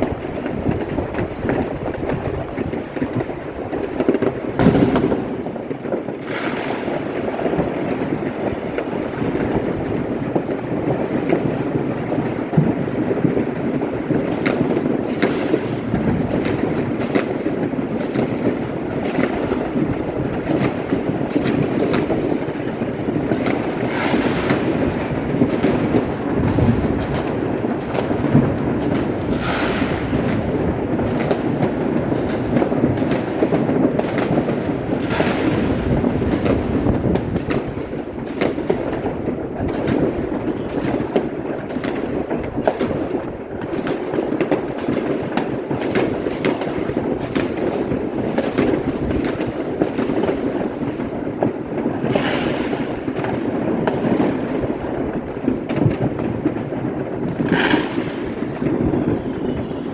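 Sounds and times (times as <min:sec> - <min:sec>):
fireworks bangs and crackles: 0:00.0 - 0:59.9
loud crackling flares: 0:00.0 - 0:59.9.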